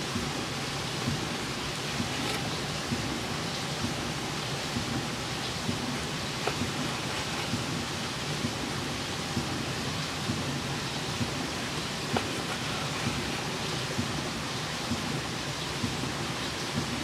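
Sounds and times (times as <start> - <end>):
steady hiss: 0.0 - 17.0
campfire crackling: 0.8 - 15.4.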